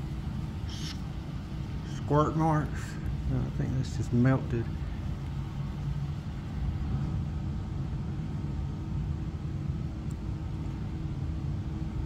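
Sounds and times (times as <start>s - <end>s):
faint mechanical hum: 0.0s - 12.0s
low background rumble: 0.0s - 12.0s.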